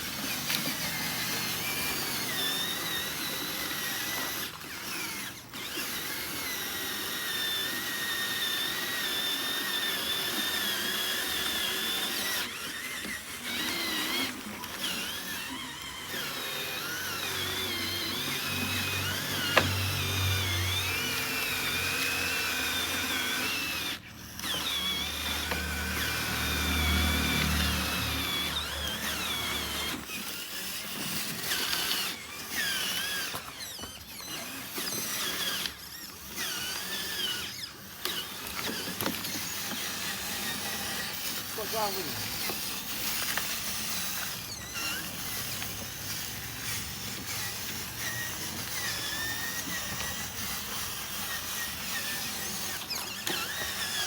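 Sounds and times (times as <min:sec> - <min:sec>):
small electric motors whining: 0:00.0 - 0:54.0.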